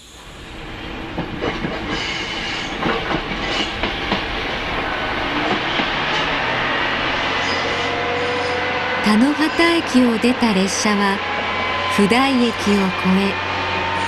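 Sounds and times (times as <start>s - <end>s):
diesel railcar passing: 0.0s - 14.0s.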